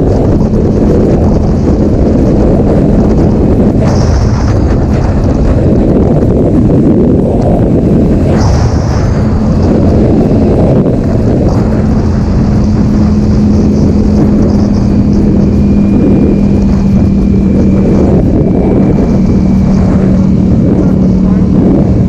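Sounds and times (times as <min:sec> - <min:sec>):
heavy rushing noise: 0:00.0 - 0:22.0
motorcycle engine running: 0:00.0 - 0:22.0.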